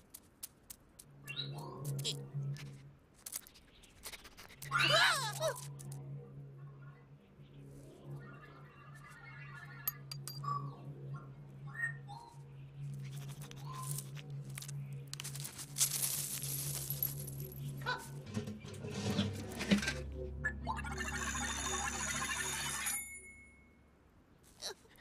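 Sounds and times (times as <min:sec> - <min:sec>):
steady low hum: 0:00.8 - 0:24.2.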